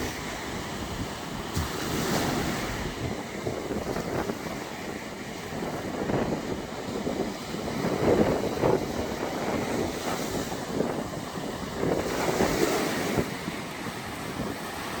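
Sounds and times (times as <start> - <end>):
sea waves washing onto beach: 0.0 - 15.0
wind buffeting microphone: 0.0 - 15.0.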